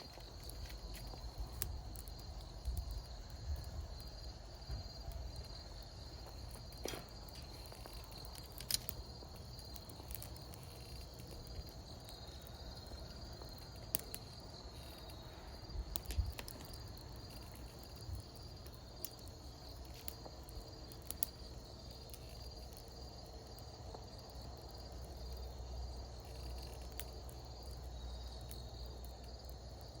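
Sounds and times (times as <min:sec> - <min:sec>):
insect trill: 0:00.0 - 0:30.0
wood fire crackling: 0:00.0 - 0:30.0.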